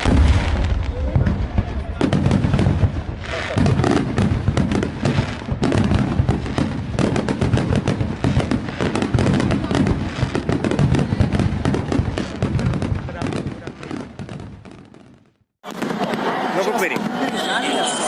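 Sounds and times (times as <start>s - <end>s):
fireworks crackling bangs: 0.0s - 18.0s.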